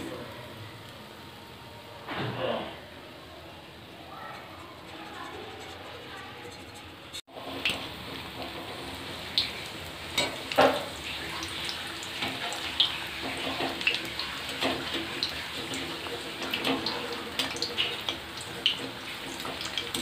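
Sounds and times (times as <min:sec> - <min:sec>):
deep-frying sizzle with crackles: 0:00.0 - 0:20.0.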